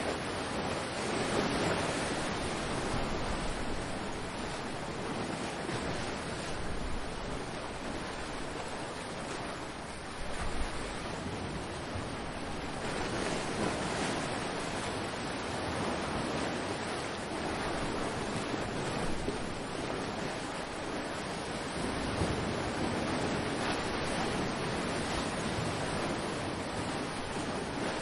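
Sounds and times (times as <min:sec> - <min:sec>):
ocean waves washing ashore: 0:00.0 - 0:28.0
wind noise on microphone: 0:00.0 - 0:28.0.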